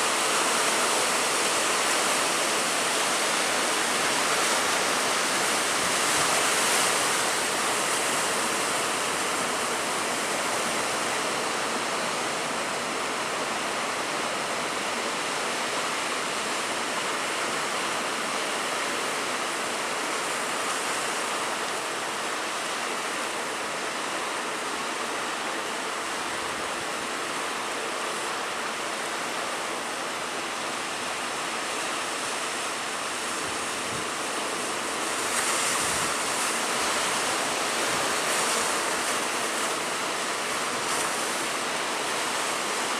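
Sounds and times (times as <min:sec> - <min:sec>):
heavy sea surf: 0:00.0 - 0:42.9.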